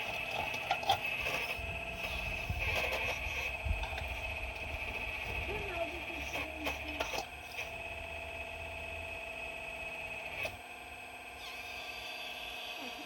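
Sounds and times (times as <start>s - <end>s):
excavator high whine: 0.0s - 13.0s.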